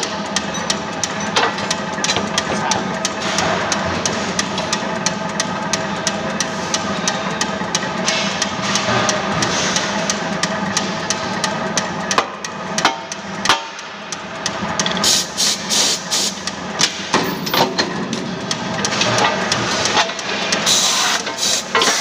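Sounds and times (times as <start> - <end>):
punch press humming and ticking: 0.0 - 22.0.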